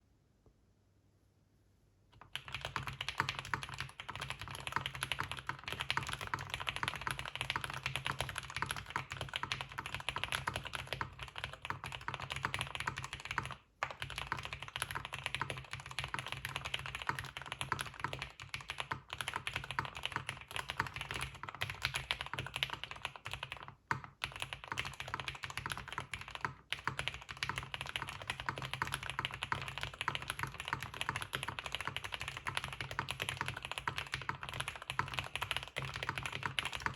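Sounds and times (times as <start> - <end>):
typing on mechanical keyboard: 2.2 - 36.9.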